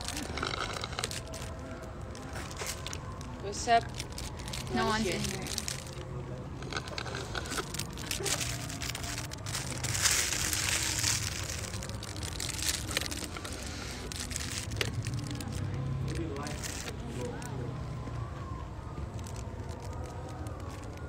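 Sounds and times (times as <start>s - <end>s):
plastic bag crinkling: 0.0s - 17.6s, 18.9s - 21.0s.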